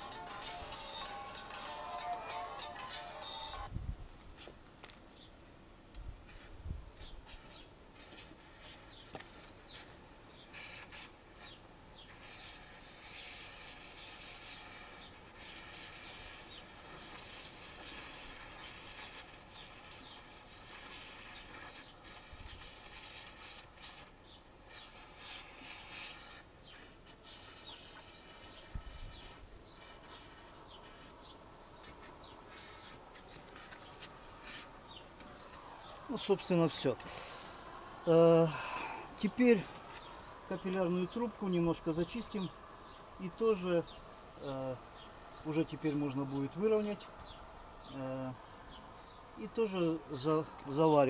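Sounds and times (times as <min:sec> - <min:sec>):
torch hissing: 0:07.2 - 0:48.4.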